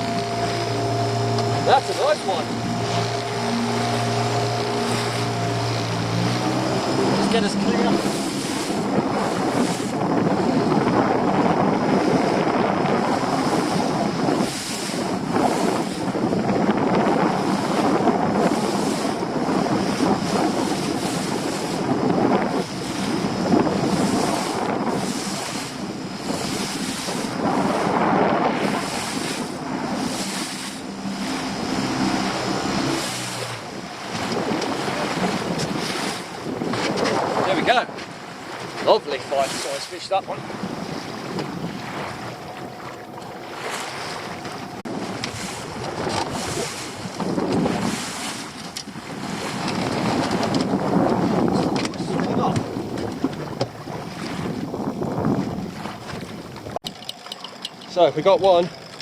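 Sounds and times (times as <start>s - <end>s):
boat engine hum: 0.0s - 59.0s
waves: 0.0s - 59.0s
wind buffeting microphone: 0.0s - 59.0s.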